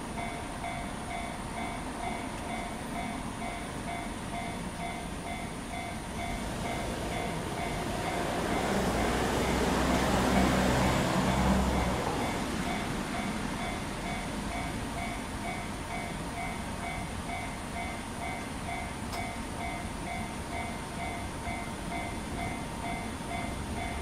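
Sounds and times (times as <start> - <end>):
crossing bell ringing: 0.0 - 24.0
freight train rumbling past: 0.0 - 24.0.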